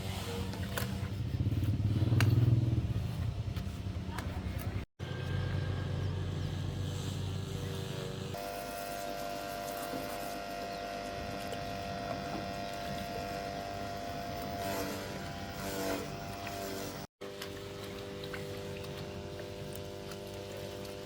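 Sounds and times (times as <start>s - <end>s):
engine humming steadily: 0.0s - 21.0s.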